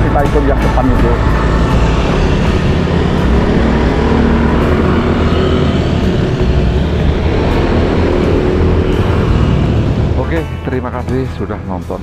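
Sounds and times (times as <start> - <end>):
motorbike and car engines: 0.0 - 12.0.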